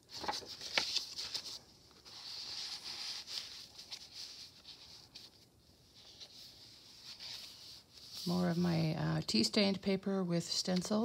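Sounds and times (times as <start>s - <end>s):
paper rustling and sliding: 0.0s - 8.8s.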